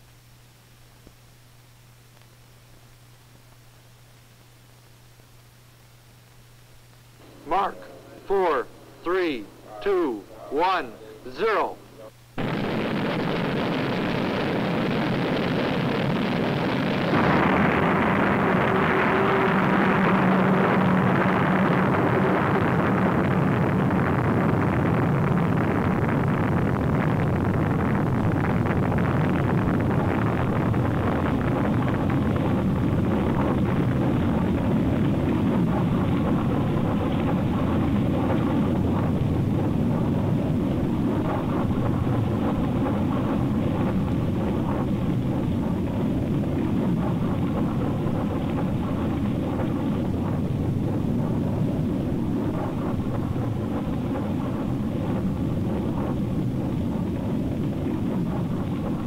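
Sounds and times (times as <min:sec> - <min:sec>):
rocket engine rumbling: 0:07.2 - 0:59.0.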